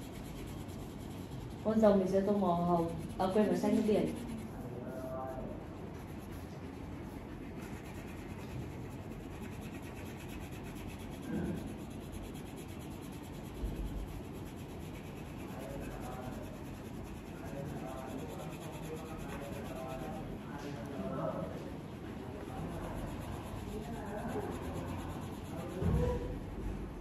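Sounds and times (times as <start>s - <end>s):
crayon rubbing on paper: 0.0s - 20.4s, 22.3s - 26.2s.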